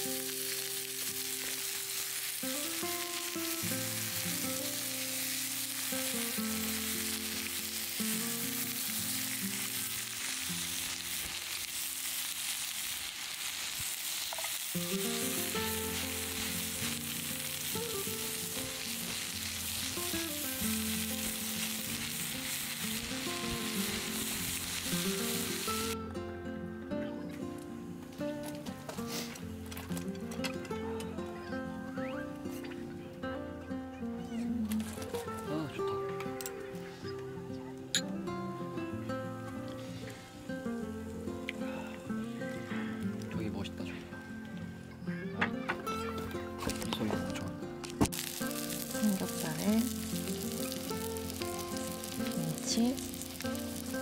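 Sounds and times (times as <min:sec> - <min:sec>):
soft melodic background music: 0:00.0 - 0:12.3, 0:14.7 - 0:54.0
food sizzling in a pan: 0:00.0 - 0:26.0, 0:28.5 - 0:30.0, 0:34.7 - 0:37.2, 0:37.8 - 0:43.4, 0:45.8 - 0:54.0.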